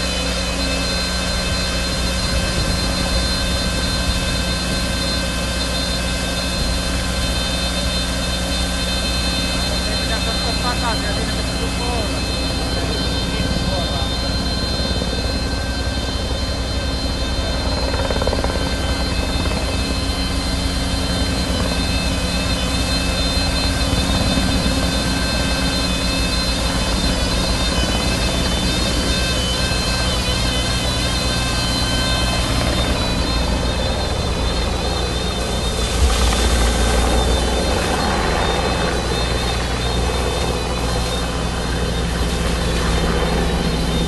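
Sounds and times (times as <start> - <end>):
diesel engine droning: 0.0 - 44.0
high-pitched pump whine: 0.0 - 44.0.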